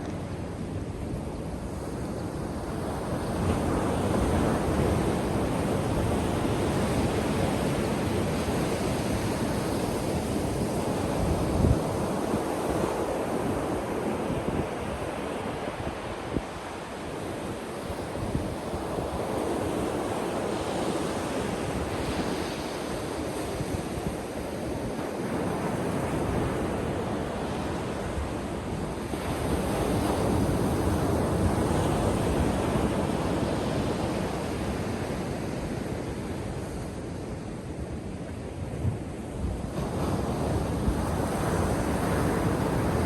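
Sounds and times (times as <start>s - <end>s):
wind rumble on microphone: 0.0s - 43.0s.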